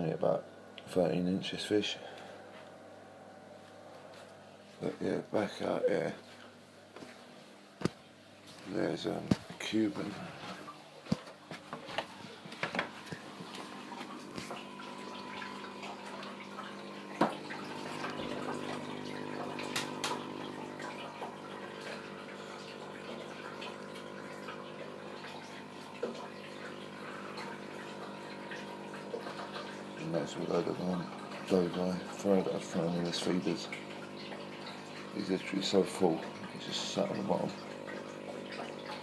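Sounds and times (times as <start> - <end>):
aquarium water trickling: 0.0 - 39.0
tank pump hum: 0.0 - 39.0.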